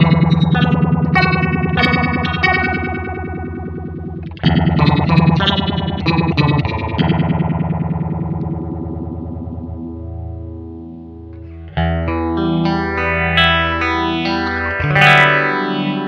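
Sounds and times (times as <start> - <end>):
distorted electric guitar with phaser: 0.0 - 16.0.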